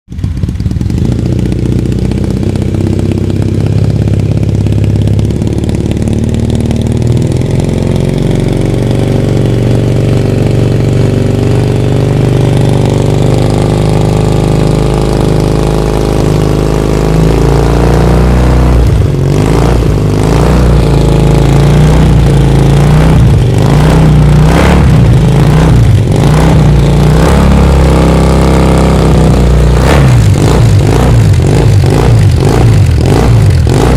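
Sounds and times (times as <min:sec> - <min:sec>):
motorcycle idling and revving: 0:00.1 - 0:33.9.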